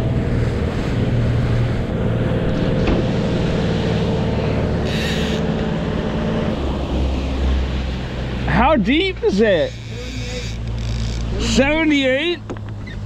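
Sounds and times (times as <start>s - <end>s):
outboard motor running: 0.0s - 13.0s
rush of wake and wind: 0.0s - 13.0s.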